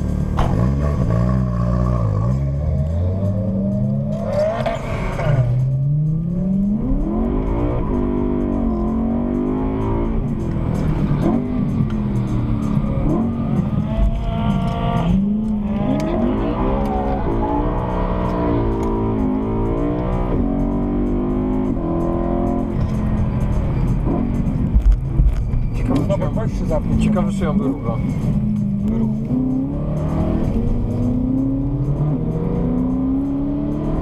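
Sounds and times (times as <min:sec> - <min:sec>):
car engine accelerating hard: 0:00.0 - 0:25.2, 0:25.8 - 0:34.0.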